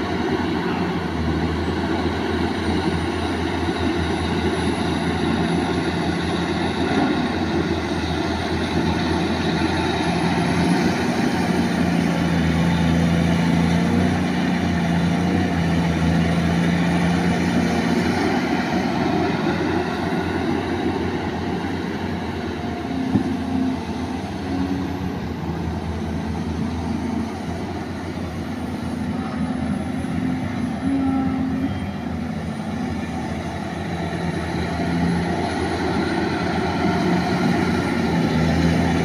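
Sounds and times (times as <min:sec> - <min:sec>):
excavator diesel engine digging: 0:00.0 - 0:39.0.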